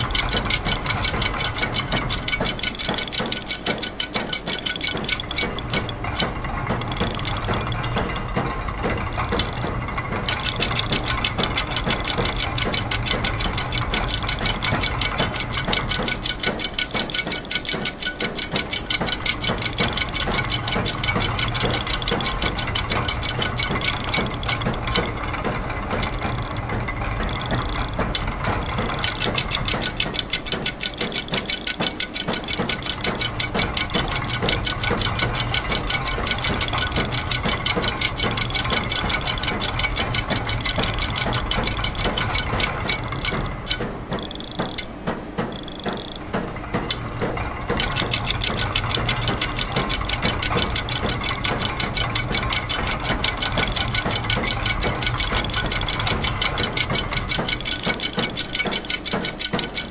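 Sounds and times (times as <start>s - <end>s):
low steady machine hum: 0.0s - 59.9s
ratchet and gear clicking: 0.0s - 59.9s.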